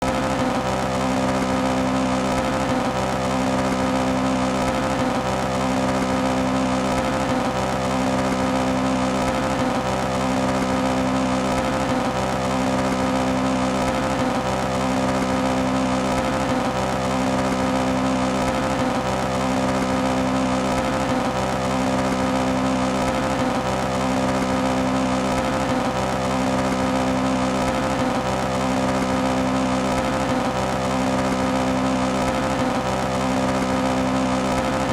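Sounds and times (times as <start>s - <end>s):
car engine at high rpm pulsing: 0.0s - 34.9s.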